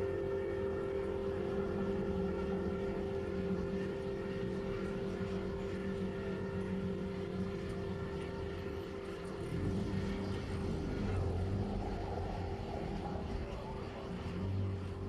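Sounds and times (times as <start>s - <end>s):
bomber engines droning: 0.0s - 15.0s.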